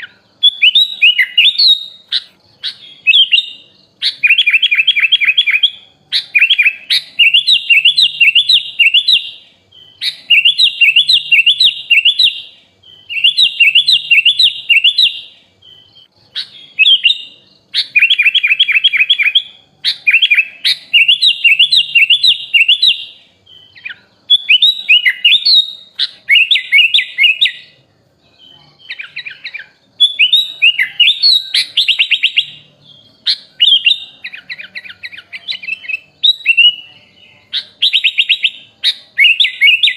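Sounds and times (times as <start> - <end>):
bird singing bright chirps: 0.0 - 39.9.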